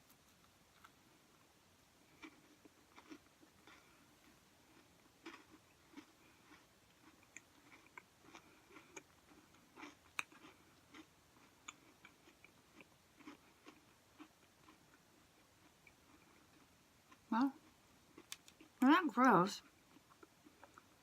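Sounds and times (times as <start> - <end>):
person chewing: 0.4 - 1.4, 2.1 - 18.8, 19.6 - 21.0.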